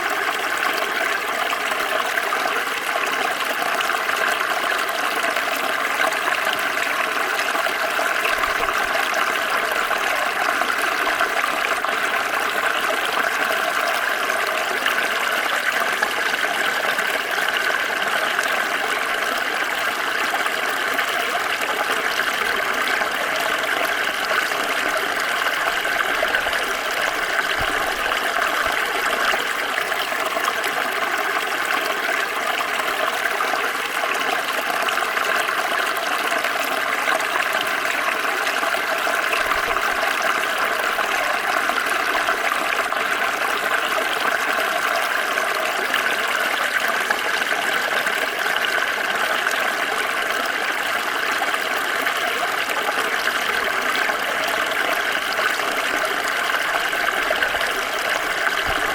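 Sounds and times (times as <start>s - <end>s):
stream flowing over stones: 0.0s - 58.9s.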